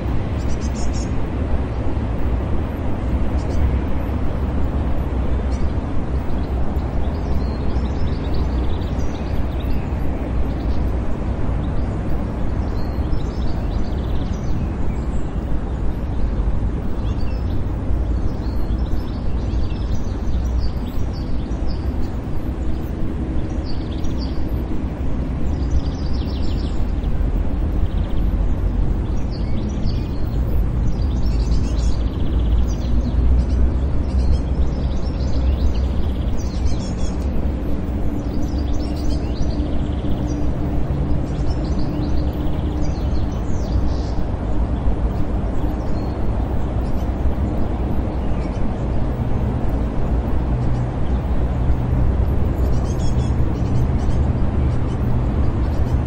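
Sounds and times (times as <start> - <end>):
distant traffic rumble: 0.0 - 56.0.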